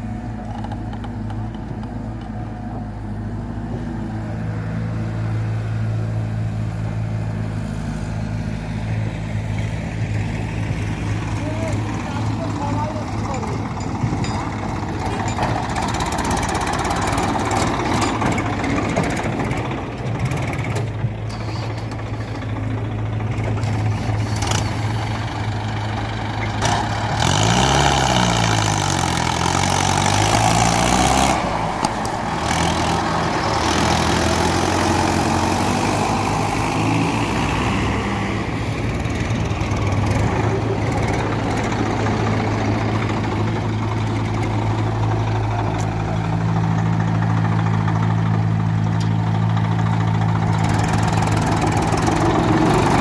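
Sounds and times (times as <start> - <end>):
heavy diesel engines running: 0.0 - 53.0.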